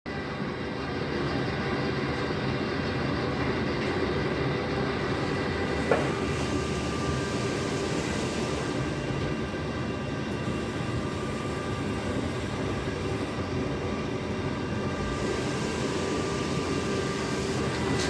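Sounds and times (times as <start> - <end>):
washing machine rumble and hum: 0.1 - 18.0.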